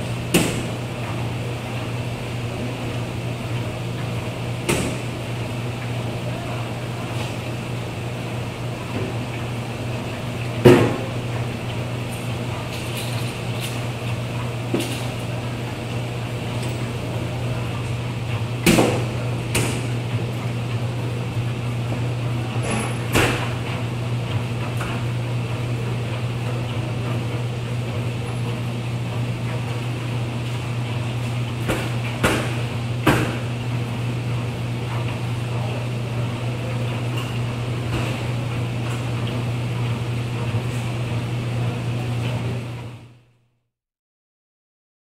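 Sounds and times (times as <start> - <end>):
hum of running machines: 0.0 - 43.6.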